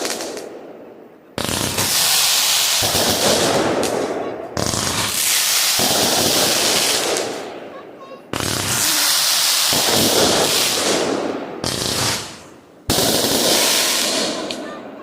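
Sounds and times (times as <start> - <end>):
firework bangs: 0.0 - 15.0.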